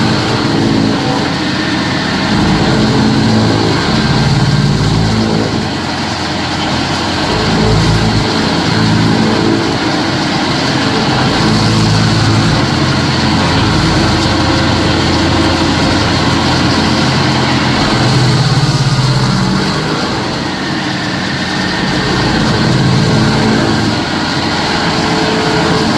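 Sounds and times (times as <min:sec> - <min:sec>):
stump grinder engine running: 0:00.0 - 0:25.9.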